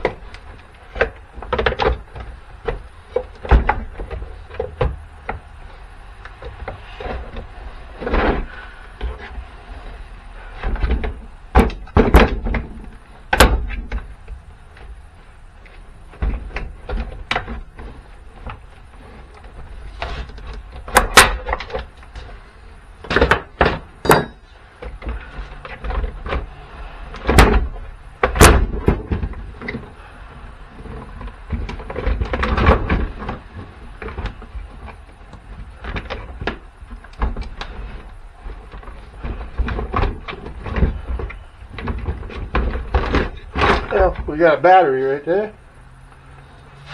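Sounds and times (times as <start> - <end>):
parts scraping and rattling: 0.0 - 46.9.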